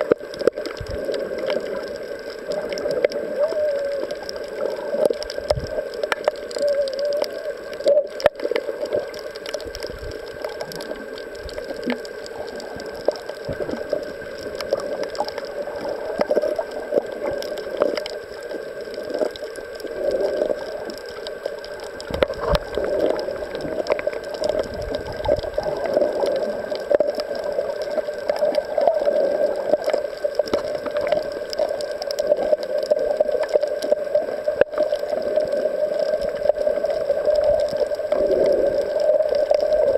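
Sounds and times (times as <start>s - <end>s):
muffled underwater hum: 0.0s - 39.9s
small crackling clicks: 0.0s - 39.9s.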